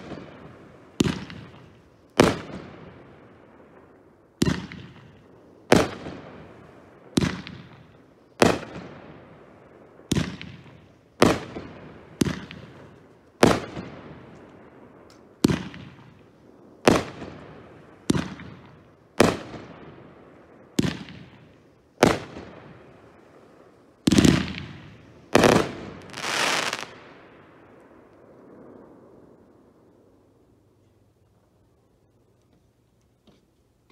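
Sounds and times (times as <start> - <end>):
firework crackling: 0.0 - 29.2.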